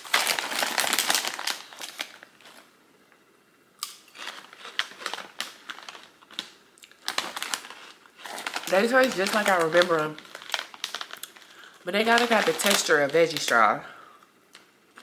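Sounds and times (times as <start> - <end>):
crunching fries: 0.0 - 2.7, 3.8 - 13.6
snack bag crinkling: 0.0 - 2.7, 3.8 - 13.8.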